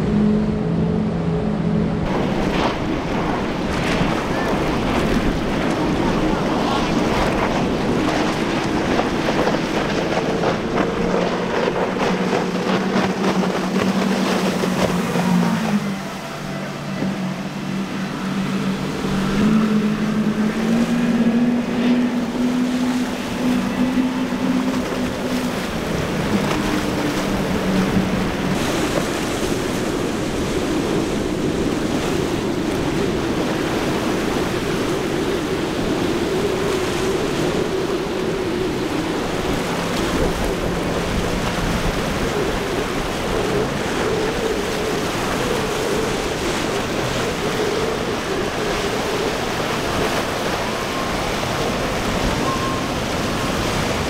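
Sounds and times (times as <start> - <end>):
outboard engines droning: 0.0 - 54.0
waves washing: 0.0 - 54.0
wind on microphone: 0.0 - 54.0.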